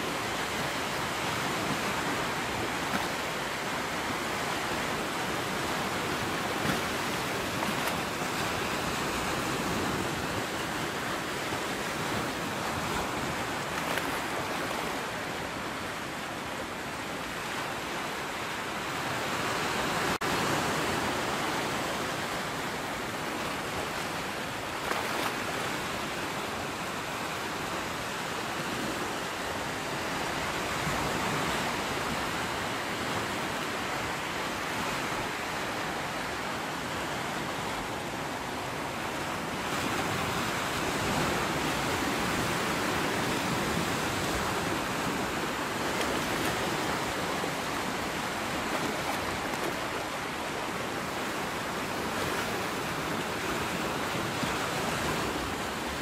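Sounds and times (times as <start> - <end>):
sea surf waves: 0.0 - 56.0.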